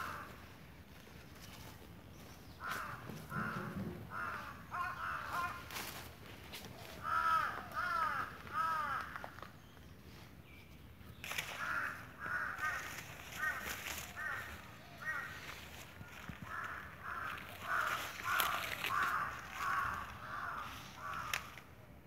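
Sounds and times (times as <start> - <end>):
crows cawing: 0.0 - 0.6, 2.5 - 9.5, 11.3 - 21.7.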